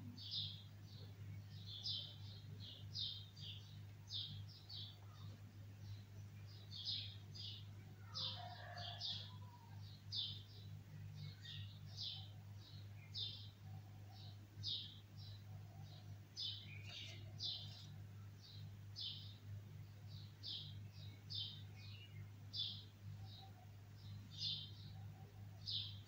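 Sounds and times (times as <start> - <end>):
low electrical hum: 0.0 - 26.0
birds giving high chirps: 0.2 - 26.0.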